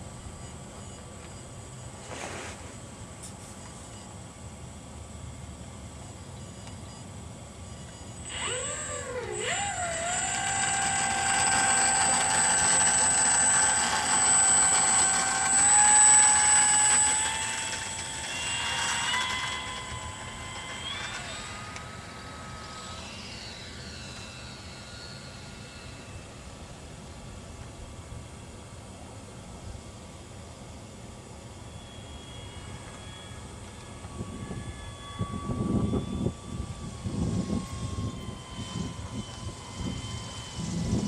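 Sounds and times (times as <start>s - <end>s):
electric motor and propeller whining: 0.0s - 41.0s.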